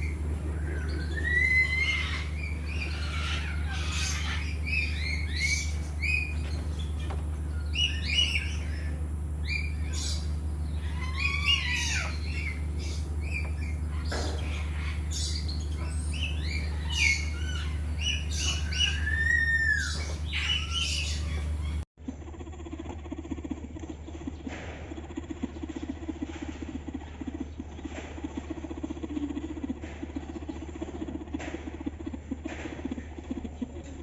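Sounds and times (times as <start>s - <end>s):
birds squawking and chirping: 0.0s - 22.5s, 23.4s - 34.0s
steady low hum: 0.0s - 34.0s.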